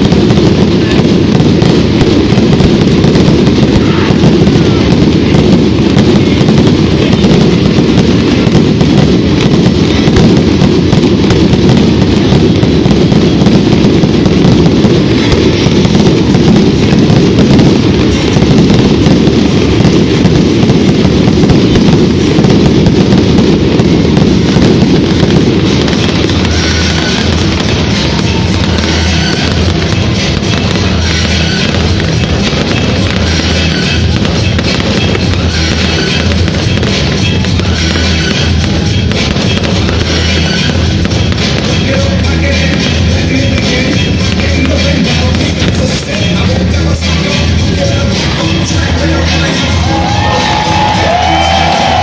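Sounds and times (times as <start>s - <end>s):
fireworks booms and crackling: 0.0s - 52.0s.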